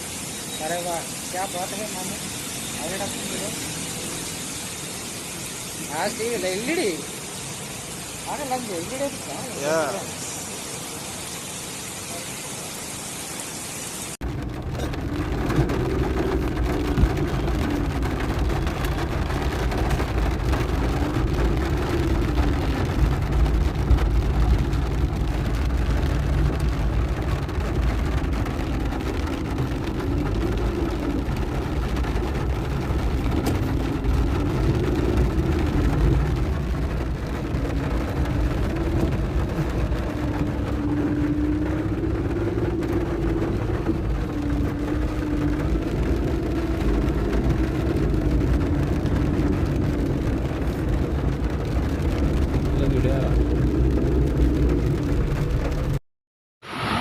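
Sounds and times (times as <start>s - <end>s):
vehicle engines rumbling: 0.0s - 10.2s, 14.2s - 56.0s
heavy rain: 0.0s - 56.0s, 56.6s - 57.0s.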